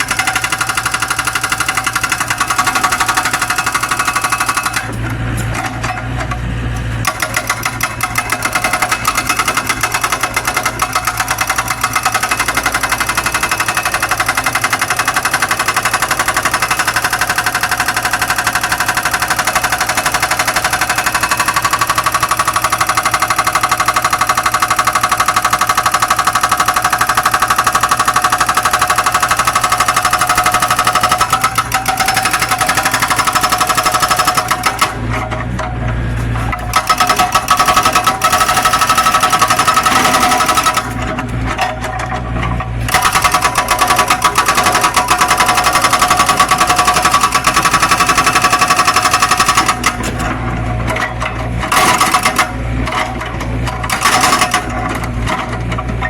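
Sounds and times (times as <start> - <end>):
excavator engine running: 0.0 - 56.0
hydraulic breaker hammer pounding: 0.0 - 56.0.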